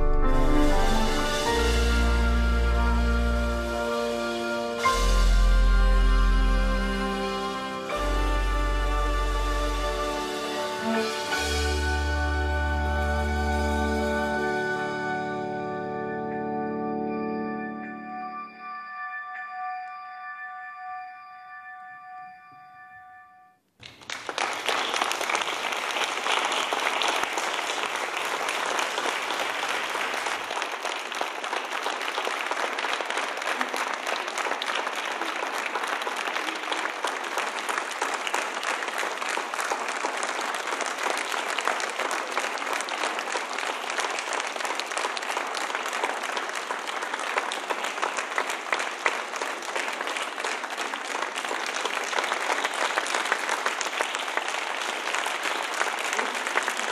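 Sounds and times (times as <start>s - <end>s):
audience applauding: 0.0s - 15.4s, 23.8s - 56.9s.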